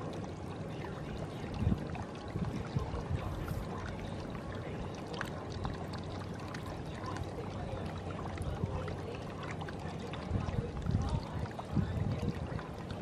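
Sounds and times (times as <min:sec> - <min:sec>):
faint steady hum: 0:00.0 - 0:13.0
water trickling and lapping: 0:00.0 - 0:13.0.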